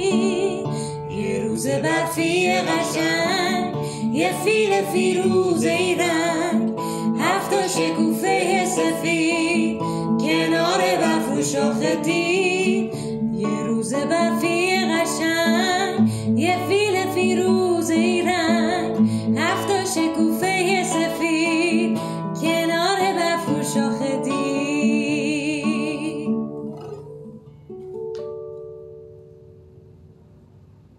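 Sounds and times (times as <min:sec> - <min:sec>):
woman singing with vibrato: 0:00.0 - 0:26.4
classical guitar: 0:00.0 - 0:30.9.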